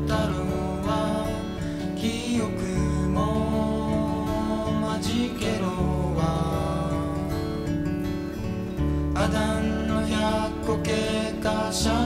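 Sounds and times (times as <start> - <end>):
man singing: 0.0 - 8.1, 9.0 - 12.0
acoustic guitars strummed and picked: 0.0 - 12.0.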